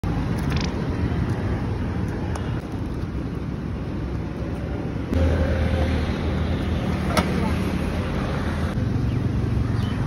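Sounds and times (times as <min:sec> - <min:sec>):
street noise rumble: 0:00.0 - 0:10.0.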